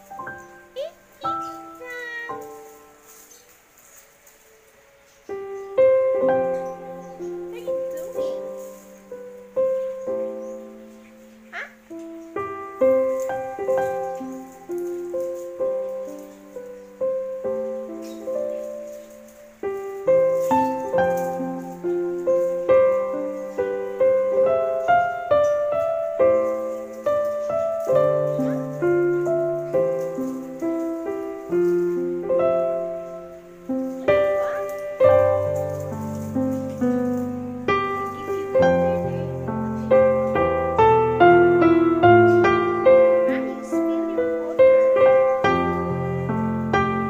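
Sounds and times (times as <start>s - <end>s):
slow piano melody: 0.0s - 47.0s.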